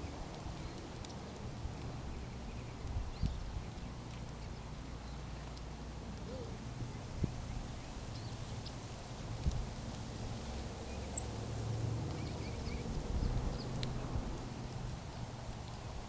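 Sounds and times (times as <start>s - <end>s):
small birds chirping: 0.0s - 9.6s, 10.5s - 11.4s, 12.1s - 15.3s.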